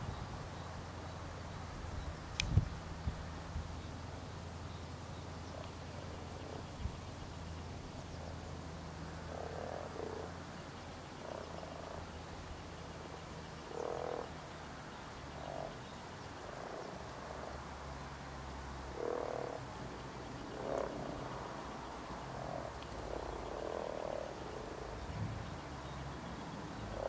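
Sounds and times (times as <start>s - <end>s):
frogs croaking: 4.3s - 27.0s.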